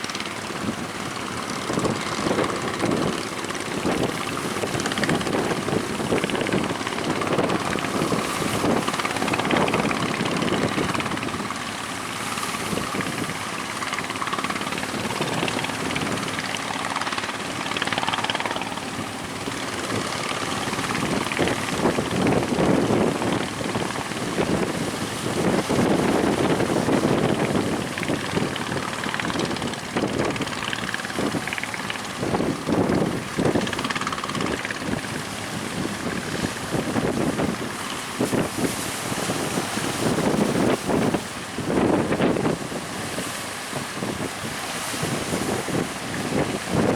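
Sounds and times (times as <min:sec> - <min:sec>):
boat engine running: 0:00.0 - 0:46.9
waves rushing: 0:00.0 - 0:46.9
wind buffeting microphone: 0:00.0 - 0:46.9.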